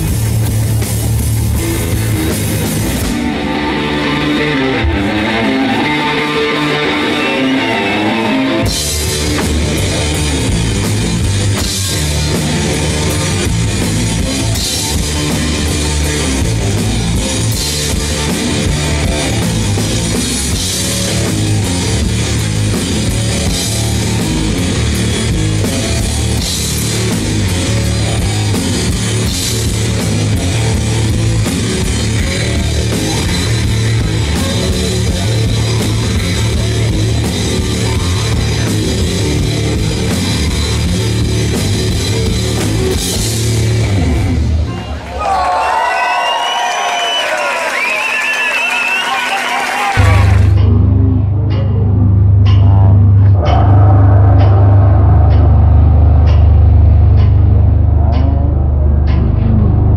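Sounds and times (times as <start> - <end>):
drum kit playing: 0.0 - 44.8, 46.8 - 51.2
electric guitar riff: 0.0 - 45.2, 47.4 - 59.9.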